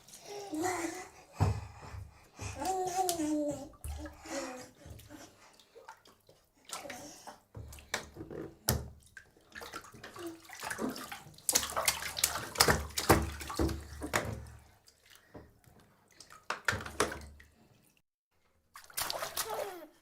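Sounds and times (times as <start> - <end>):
bathwater splashing in a tub: 0.0 - 18.0, 18.7 - 20.0.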